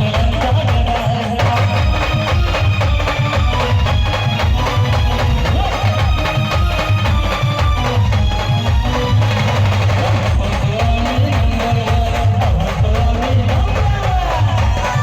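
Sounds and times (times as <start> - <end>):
heavy drum beats: 0.0 - 15.0
live band playing folk song: 0.0 - 15.0.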